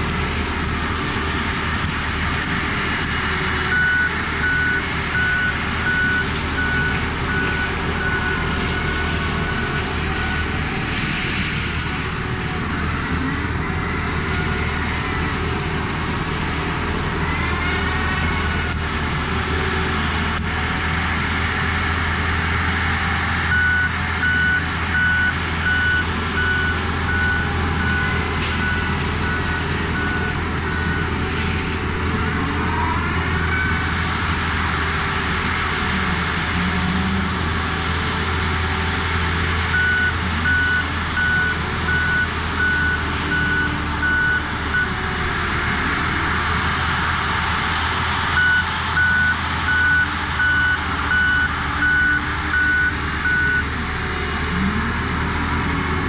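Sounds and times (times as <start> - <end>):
brush cutter whirring: 0.0 - 47.8
excavator engine drone: 0.0 - 56.0.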